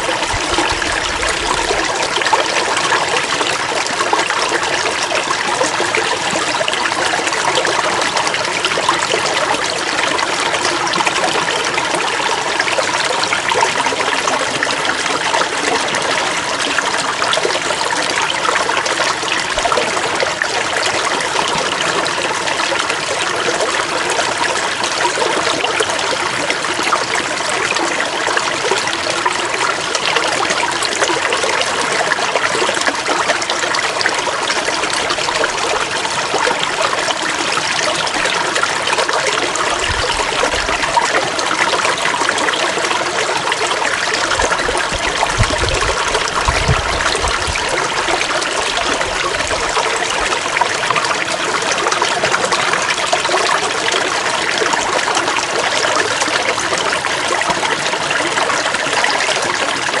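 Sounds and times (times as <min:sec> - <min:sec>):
stream water trickling: 0:00.0 - 1:00.0.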